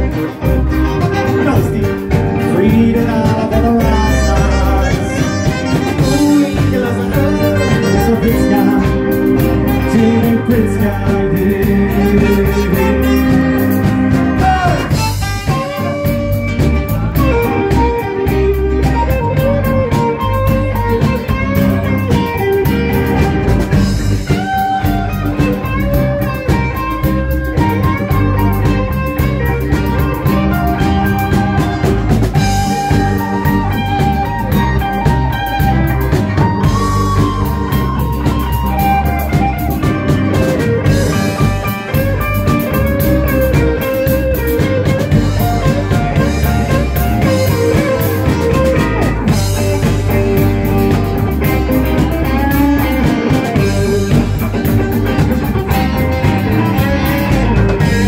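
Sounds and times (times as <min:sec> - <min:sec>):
bass guitar: 0:00.0 - 0:58.0
drum kit: 0:00.0 - 0:58.0
electric guitar lead with bent notes: 0:00.0 - 0:58.0.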